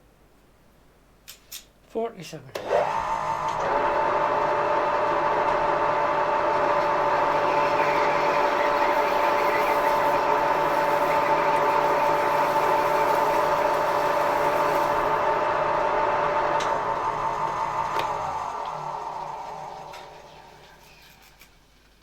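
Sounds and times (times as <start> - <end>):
machine tool motor whining: 2.6 - 21.6.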